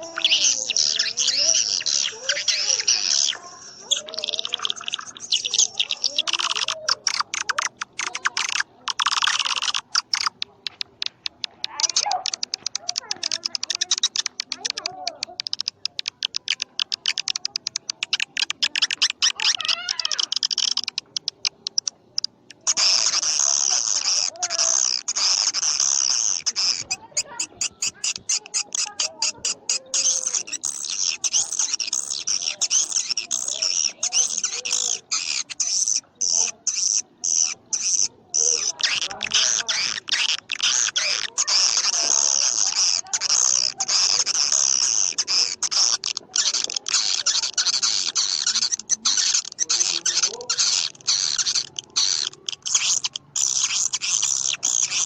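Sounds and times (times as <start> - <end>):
swiftlet buzzy chattering twitter: 0.0 - 55.0
swiftlet clicks: 0.0 - 55.0.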